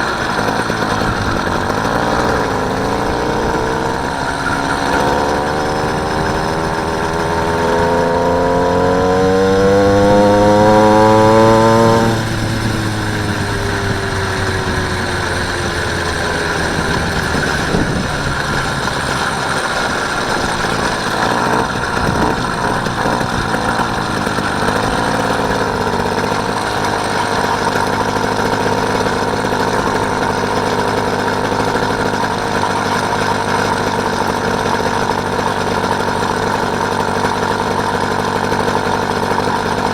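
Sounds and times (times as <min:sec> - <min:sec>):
motorised bicycle engine revving: 0:00.0 - 0:39.9.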